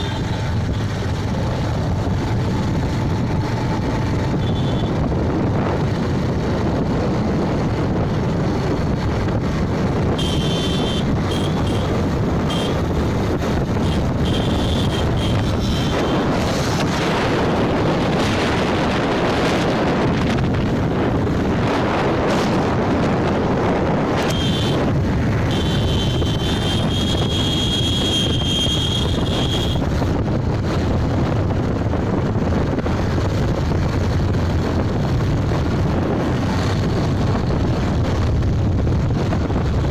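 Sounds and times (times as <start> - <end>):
motorcycle road noise: 0.0 - 39.9
wind buffeting microphone: 0.0 - 39.9.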